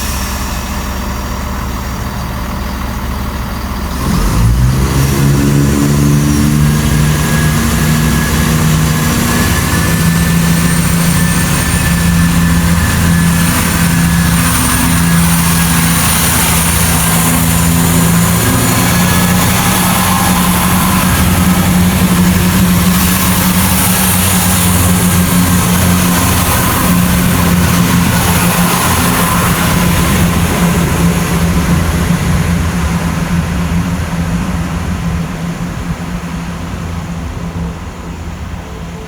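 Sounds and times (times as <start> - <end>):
diesel train engine: 0.0 - 39.0
wheel and rail noise: 0.0 - 39.0.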